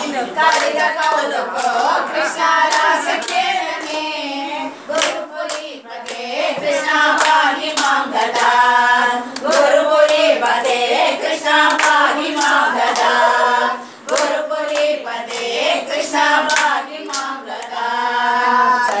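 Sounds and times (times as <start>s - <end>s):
hands clapping in rhythm: 0.0s - 19.0s
women singing together: 0.0s - 19.0s.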